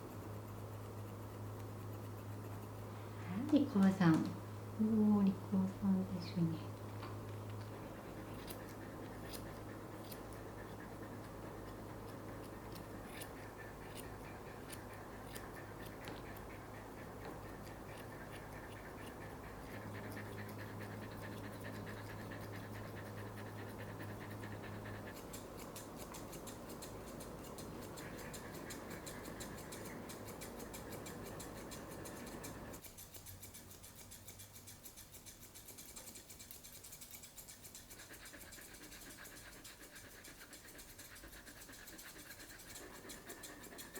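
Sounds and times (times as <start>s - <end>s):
scissors snipping hair: 0.0s - 2.8s, 8.2s - 43.9s.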